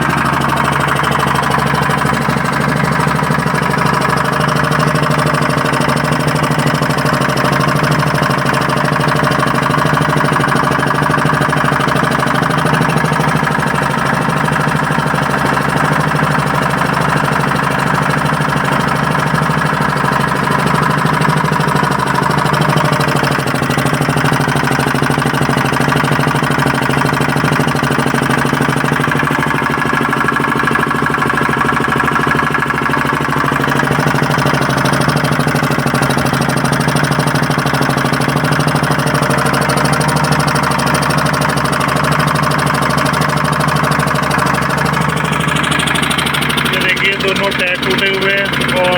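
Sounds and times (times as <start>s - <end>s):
generator engine running steadily: 0.0s - 48.9s.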